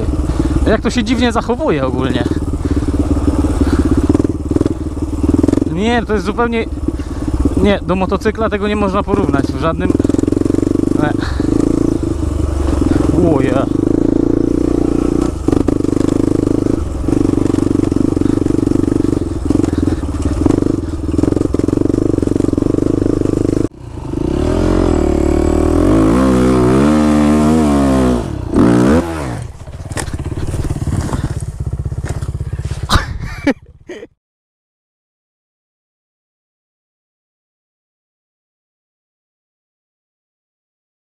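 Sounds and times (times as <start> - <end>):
dirt bike engine revving: 0.0 - 34.1
quad engine running: 0.0 - 34.1.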